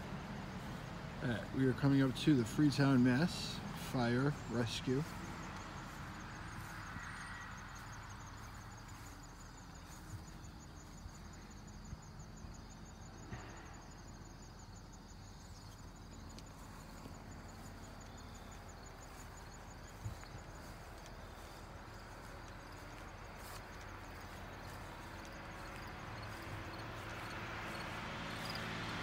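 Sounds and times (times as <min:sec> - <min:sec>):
cricket chirping: 0:00.0 - 0:01.5, 0:02.1 - 0:29.0
distant traffic hum: 0:00.0 - 0:29.0.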